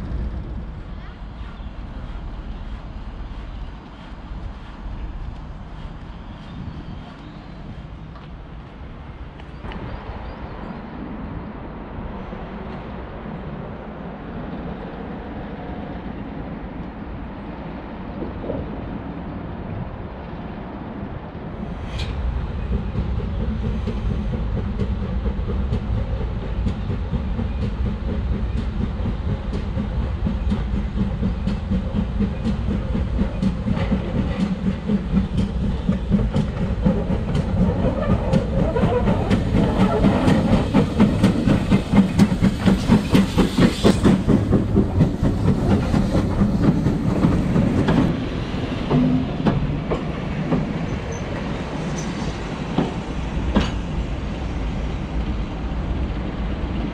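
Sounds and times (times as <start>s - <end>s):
train wheels clickety-clack on rails: 0.0s - 56.9s.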